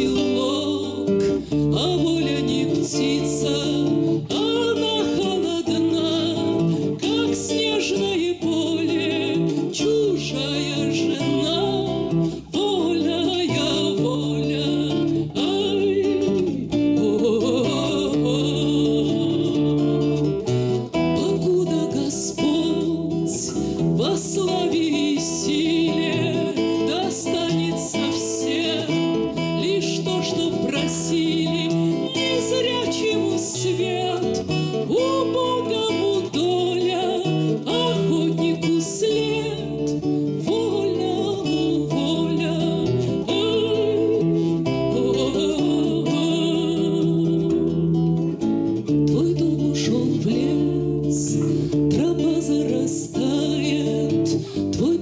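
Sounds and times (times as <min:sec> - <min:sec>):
acoustic guitar: 0:00.0 - 0:55.0
woman singing: 0:00.0 - 0:55.0.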